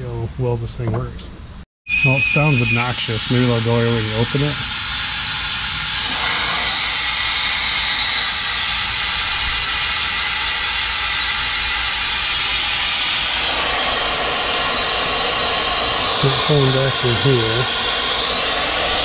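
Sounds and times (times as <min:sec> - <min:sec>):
compressed air hiss: 0:02.1 - 0:19.0.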